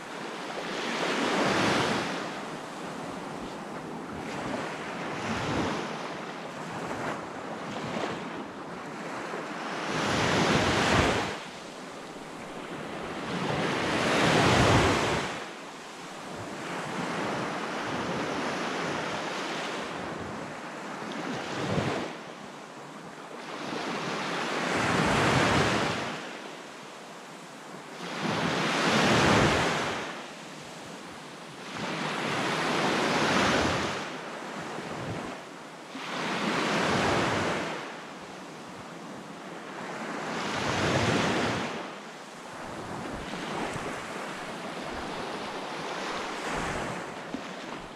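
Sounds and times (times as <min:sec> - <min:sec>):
small waves breaking on sand: 0:00.0 - 0:47.9.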